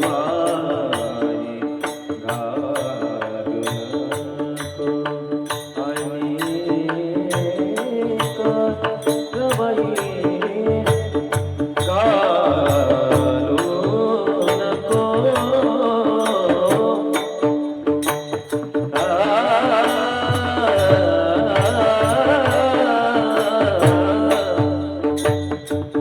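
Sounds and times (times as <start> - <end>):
person singing wavering melody: 0.0 - 26.0
sharp percussion strokes: 0.0 - 26.0.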